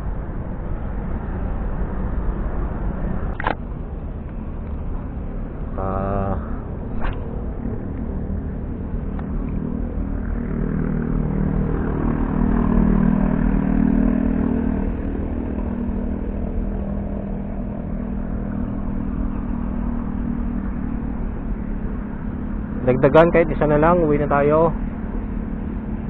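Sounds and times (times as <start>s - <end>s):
background traffic noise: 0.0s - 26.0s
vehicle engine passing: 0.0s - 26.0s.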